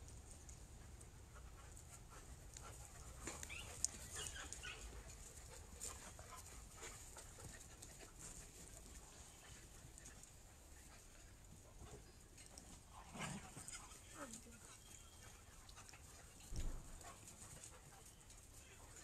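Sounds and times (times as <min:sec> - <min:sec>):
dog panting: 0:00.8 - 0:12.8, 0:13.4 - 0:19.0.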